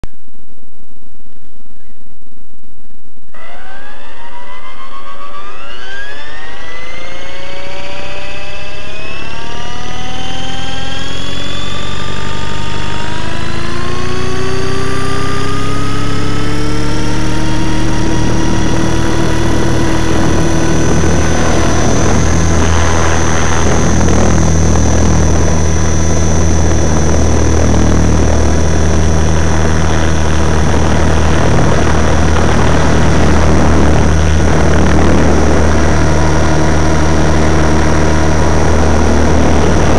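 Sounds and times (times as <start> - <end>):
low rotor beat: 3.2 - 39.9
model helicopter whine: 3.4 - 39.9.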